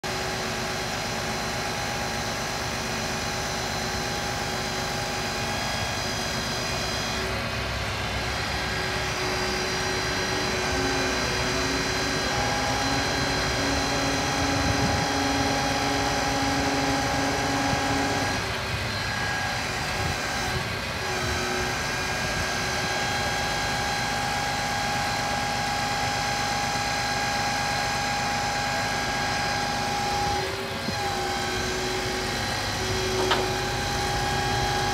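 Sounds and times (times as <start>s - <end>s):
diesel truck engine running: 0.0s - 26.3s, 27.6s - 34.9s
hydraulic crane whine: 0.0s - 34.9s.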